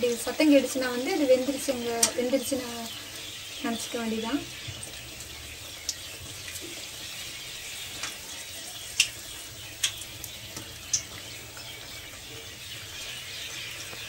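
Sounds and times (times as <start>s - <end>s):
fritters sizzling in hot oil: 0.0s - 14.0s.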